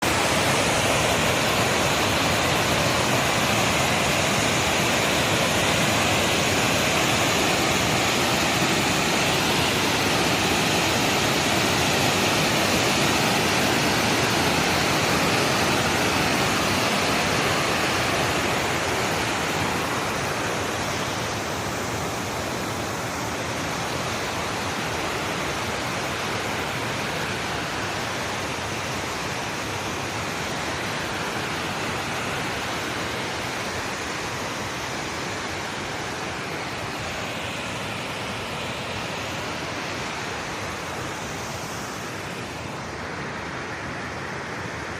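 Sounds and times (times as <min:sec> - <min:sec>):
water rushing: 0:00.0 - 0:44.9.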